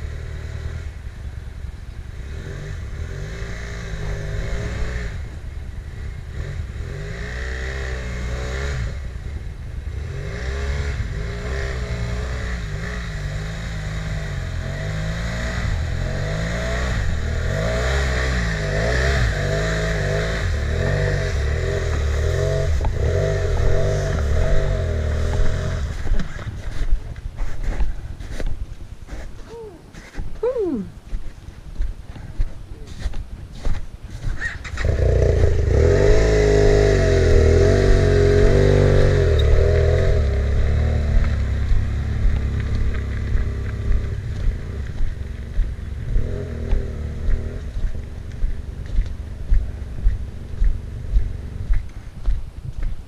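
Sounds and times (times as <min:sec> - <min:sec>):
motorcycle engine revving: 0:00.0 - 0:26.9, 0:34.2 - 0:52.4.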